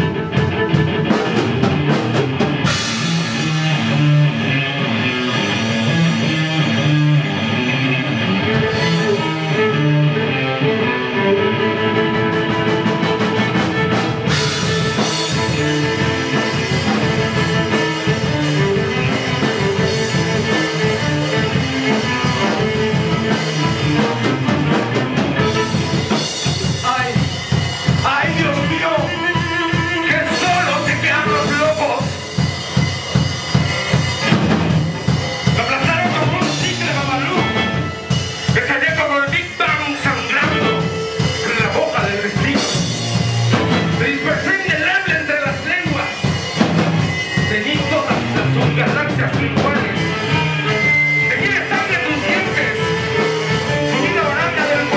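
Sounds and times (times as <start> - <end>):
drum kit: 0.0 - 54.9
electric guitar: 0.0 - 54.9
violin: 0.0 - 54.9.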